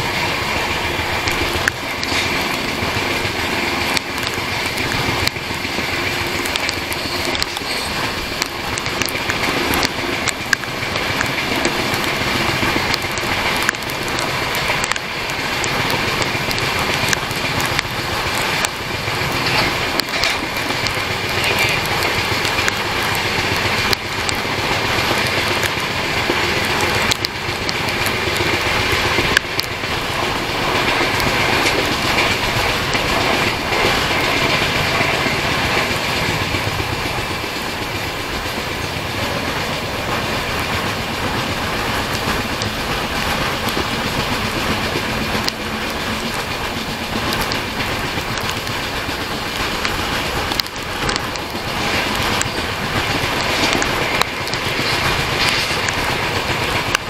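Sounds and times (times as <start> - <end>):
train wheels rushing on rails: 0.0 - 57.0
wheels clicking over rail joints: 0.0 - 57.0.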